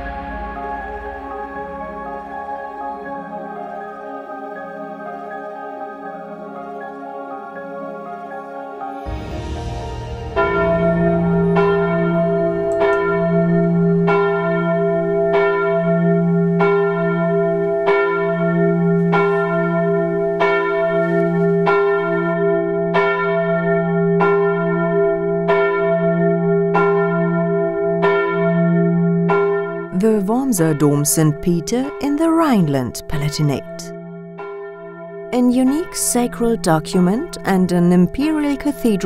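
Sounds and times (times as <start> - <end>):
large church bell tolling: 0.0 - 39.0.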